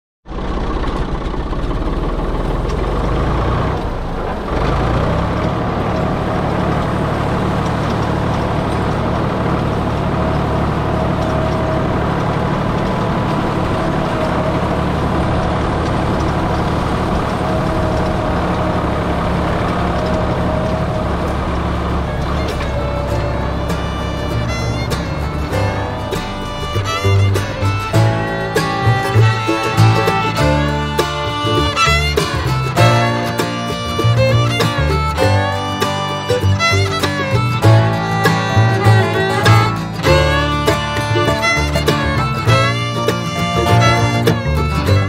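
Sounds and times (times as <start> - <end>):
tractor engine running: 0.3 - 45.0.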